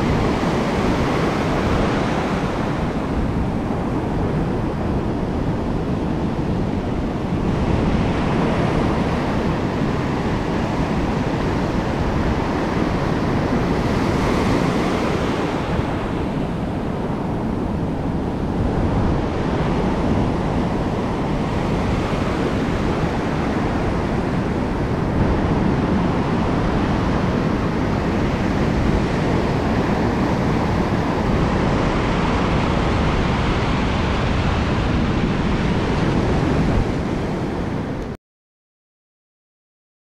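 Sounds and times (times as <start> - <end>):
ocean surf breaking on beach: 0.0 - 38.2
wind rumbling on microphone: 0.0 - 38.2.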